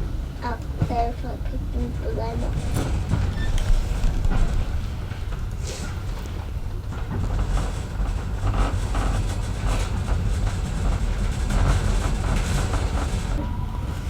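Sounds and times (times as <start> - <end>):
train rumble: 0.0 - 14.0
wheels clattering over rails: 0.0 - 14.0.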